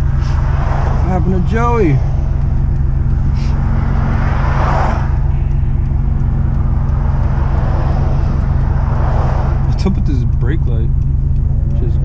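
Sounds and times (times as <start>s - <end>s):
car engine drone: 0.0s - 12.0s
road and tyre rush: 0.0s - 12.0s.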